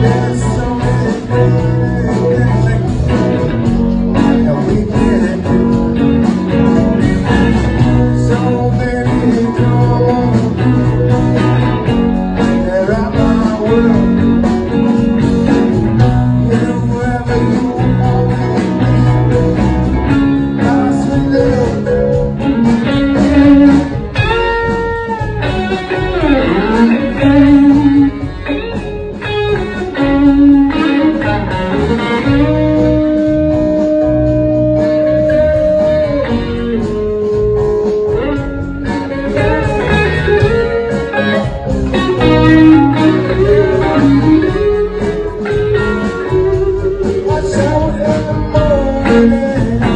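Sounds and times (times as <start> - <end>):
live blues band playing: 0.0 - 49.9
sliding bending guitar notes: 0.0 - 49.9.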